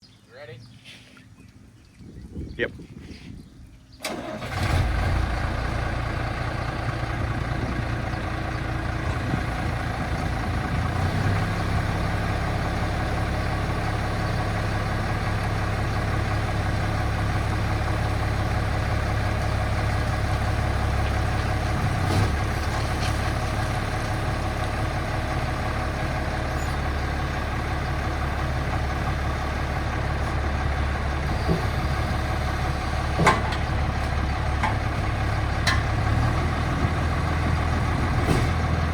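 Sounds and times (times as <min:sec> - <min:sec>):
diesel truck engine idling: 0:04.0 - 0:38.9.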